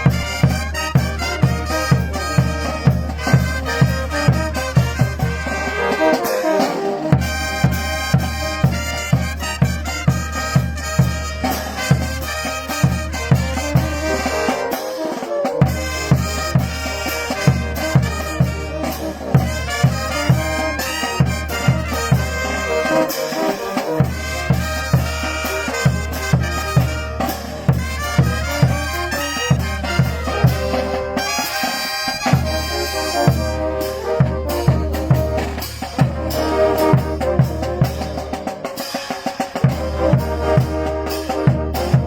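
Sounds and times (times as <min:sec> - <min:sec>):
drums and pulsing bass beat: 0:00.0 - 0:23.2, 0:23.9 - 0:42.0
trumpets playing: 0:00.0 - 0:42.0.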